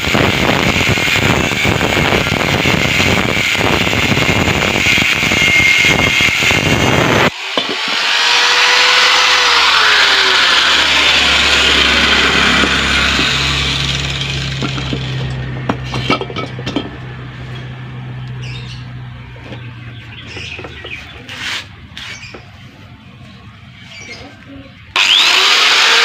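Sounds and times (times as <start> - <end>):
power tool grinding steel: 0.0 - 17.9, 19.5 - 22.4, 24.9 - 26.0.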